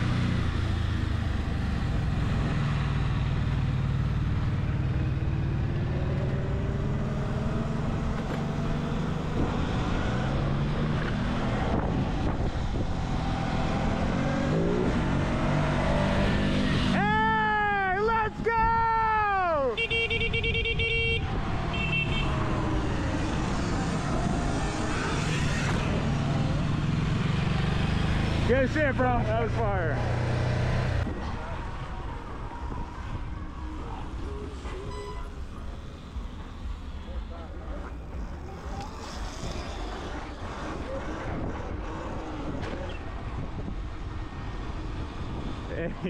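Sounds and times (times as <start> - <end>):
wind and road noise: 0.0 - 46.0.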